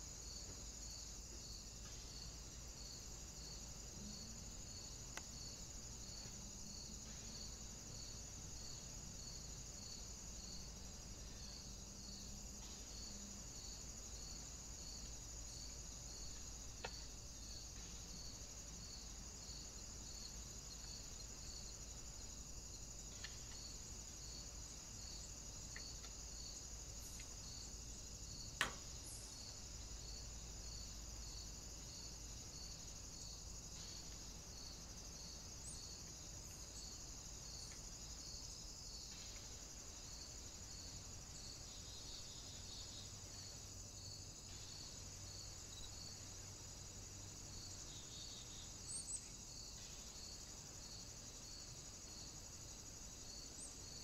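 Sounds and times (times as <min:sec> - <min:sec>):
insect chorus chirping: 0:00.0 - 0:54.0.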